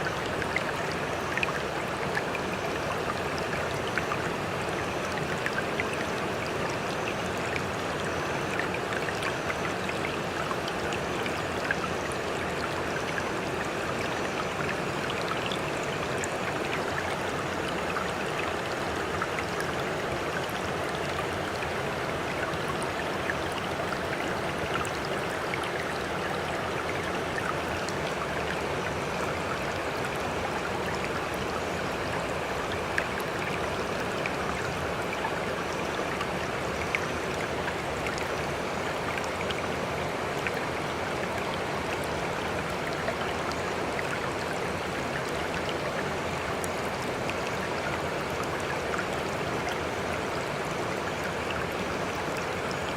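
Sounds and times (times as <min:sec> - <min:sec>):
rush of sea water: 0:00.0 - 0:52.9
water drips and splashes: 0:00.0 - 0:52.9.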